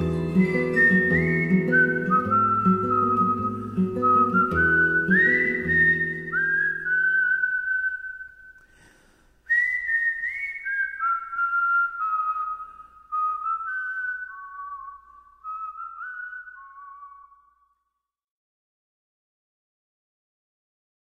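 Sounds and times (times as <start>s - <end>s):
whistled melody: 0.0s - 8.7s, 9.5s - 18.0s.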